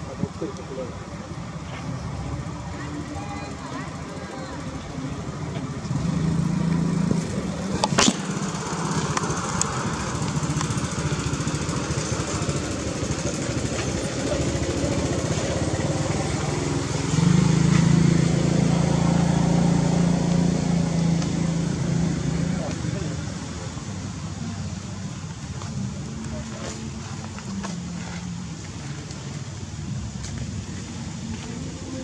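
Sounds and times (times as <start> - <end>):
engine droning: 0.0 - 32.0.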